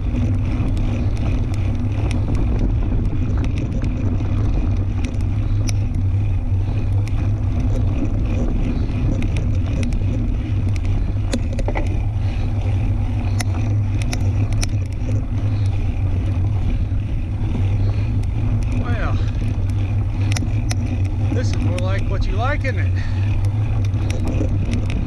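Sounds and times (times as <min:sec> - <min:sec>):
bike clicks and rattles: 0:00.0 - 0:25.0
wind buffeting microphone: 0:00.0 - 0:25.0.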